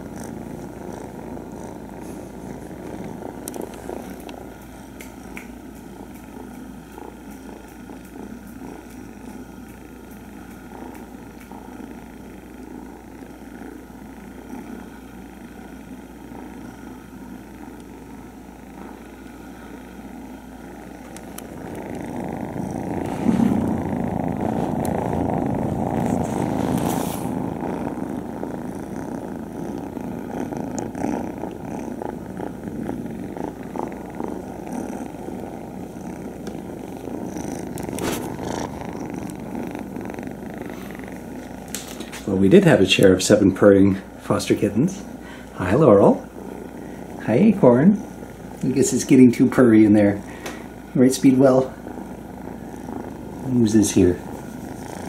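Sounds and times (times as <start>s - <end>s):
kittens purring: 0.0s - 55.0s.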